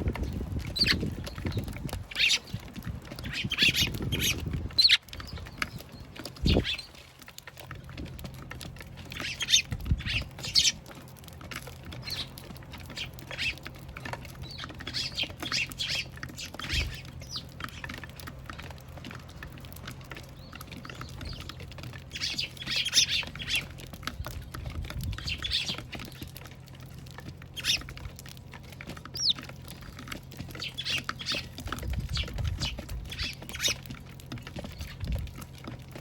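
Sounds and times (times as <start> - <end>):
sparrows chirping: 0.0 - 36.0.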